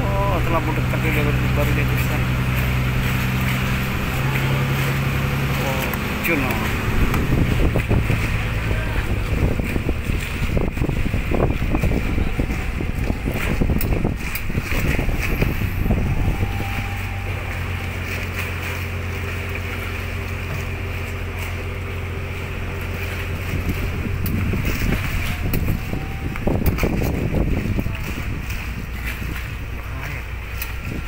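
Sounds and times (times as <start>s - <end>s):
low motor hum: 0.0s - 31.0s
wind buffeting microphone: 0.0s - 31.0s.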